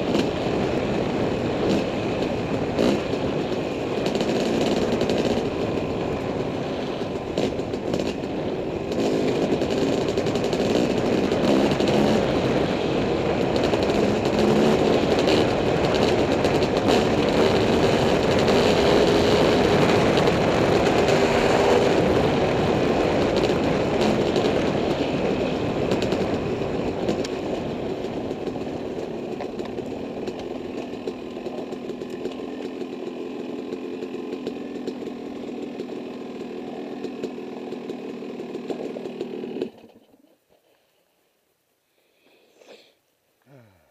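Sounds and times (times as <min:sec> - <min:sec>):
dirt bike engine running: 0:00.0 - 0:40.3.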